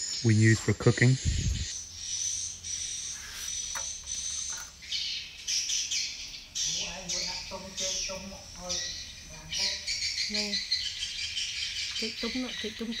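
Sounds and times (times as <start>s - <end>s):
birds chirping: 0.0s - 13.0s
high insect drone: 0.0s - 13.0s.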